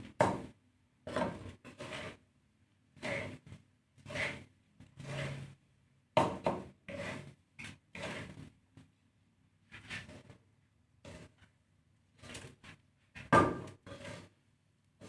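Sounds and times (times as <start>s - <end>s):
spatula scraping seed in a pan: 0.0s - 2.3s, 2.9s - 5.6s, 6.2s - 9.0s, 9.6s - 15.0s.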